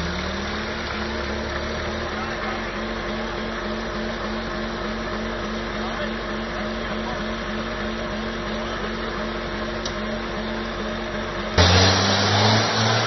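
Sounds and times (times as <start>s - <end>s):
off-road engines running: 0.0s - 13.0s.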